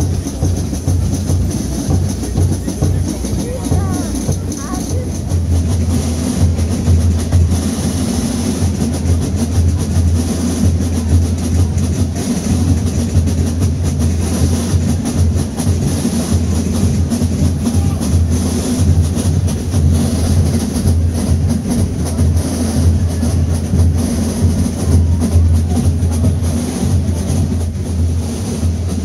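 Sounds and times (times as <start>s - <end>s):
deep bass drums rumbling: 0.0s - 29.0s
dense crowd noise: 0.0s - 29.0s
drums playing dance rhythm: 0.0s - 29.0s.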